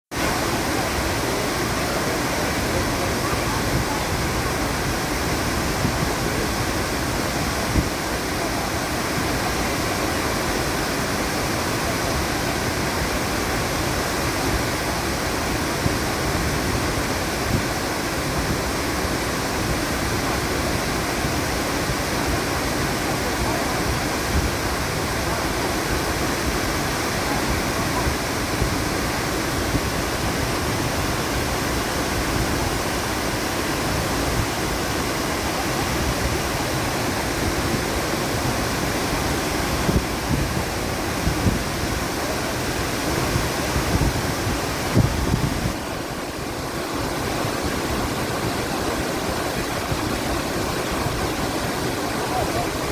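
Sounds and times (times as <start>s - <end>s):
waterfall rushing: 0.1s - 52.9s.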